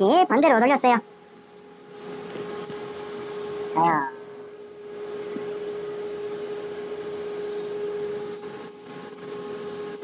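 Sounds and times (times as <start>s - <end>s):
steady mid-pitched hum: 0.0s - 10.0s.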